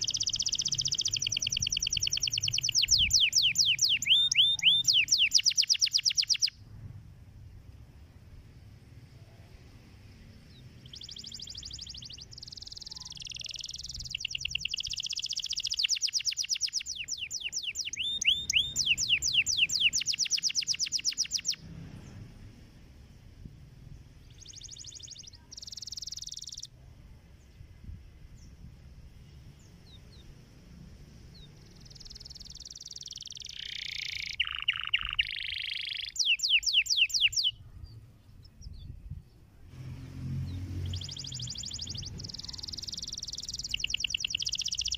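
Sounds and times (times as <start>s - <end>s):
canary singing trills: 0.0s - 6.6s, 9.1s - 22.2s, 24.0s - 26.9s, 29.5s - 44.9s.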